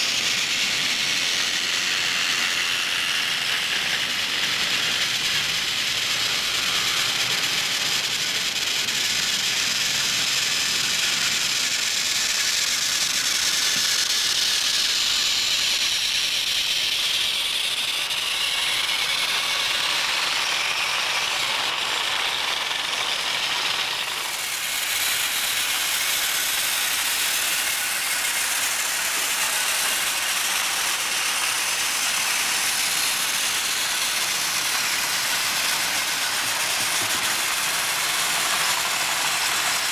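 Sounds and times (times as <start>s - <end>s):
toy train motors whirring: 0.0s - 39.9s
wheels clattering on plastic track: 0.0s - 39.9s.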